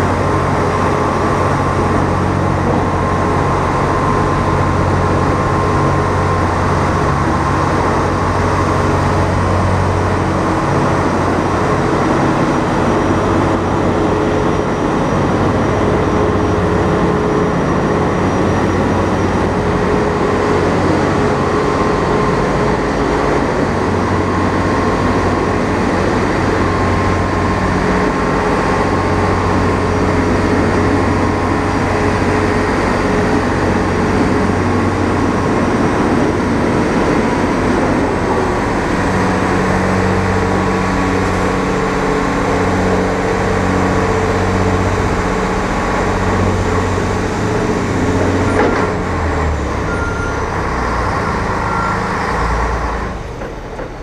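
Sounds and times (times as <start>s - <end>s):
road noise: 0.0s - 54.0s
truck diesel engine running: 0.0s - 54.0s.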